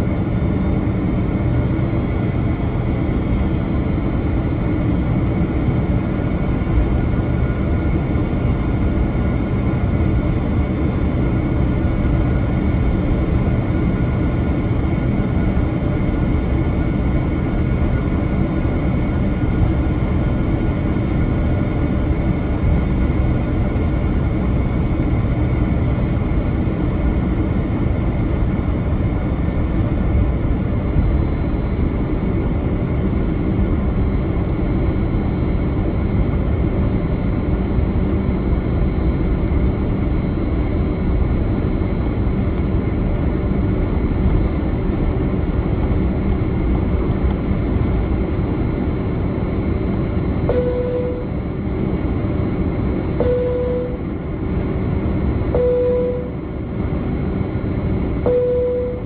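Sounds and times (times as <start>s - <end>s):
wheels rumbling on taxiway: 0.0s - 58.9s
faint steady whines: 0.0s - 59.0s
jet engines humming: 0.0s - 59.0s.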